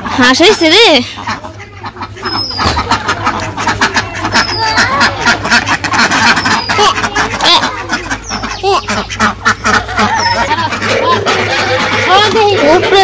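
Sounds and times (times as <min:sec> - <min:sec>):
ducks quacking: 0:00.0 - 0:13.0
steady low hum: 0:00.0 - 0:13.0.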